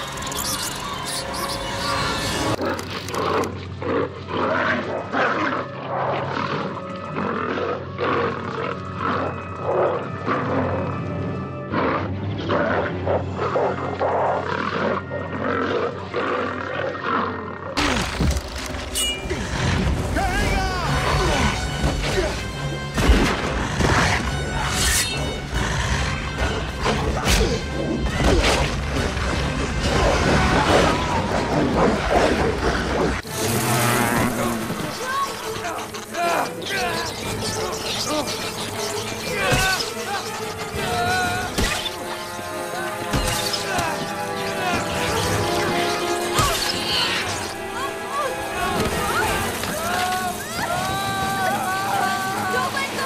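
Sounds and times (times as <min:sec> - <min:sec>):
film score music: 0:00.0 - 0:53.0
tiger snarling and roaring: 0:02.3 - 0:11.0, 0:11.7 - 0:18.4, 0:22.5 - 0:49.8.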